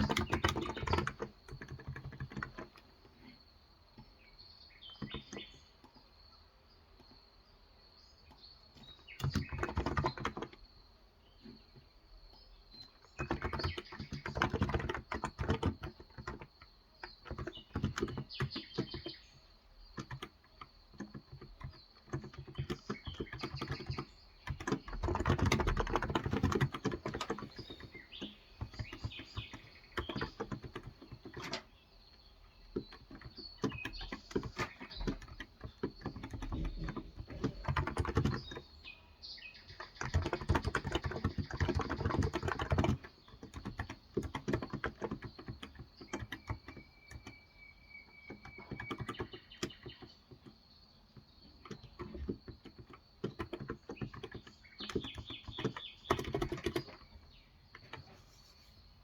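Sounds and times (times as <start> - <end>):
typing on keyboard: 0.0 - 3.4, 4.8 - 6.0, 8.3 - 10.7, 12.7 - 38.9, 39.6 - 58.3
birds chirping faintly: 0.0 - 59.0.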